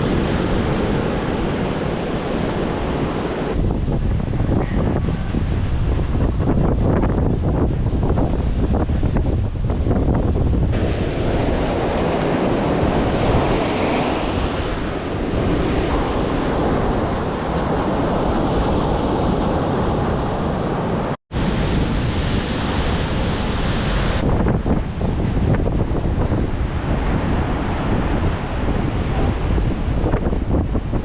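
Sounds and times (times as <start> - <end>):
sea surf breaking: 0.0 - 4.5, 10.5 - 31.0
wind buffeting microphone: 0.0 - 31.0.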